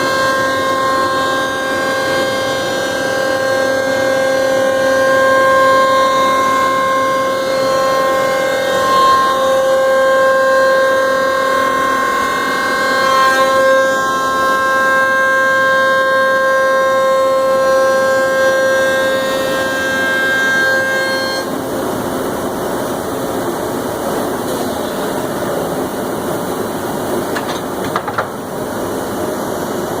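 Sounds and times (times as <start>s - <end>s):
cnc router whine: 0.0s - 30.0s.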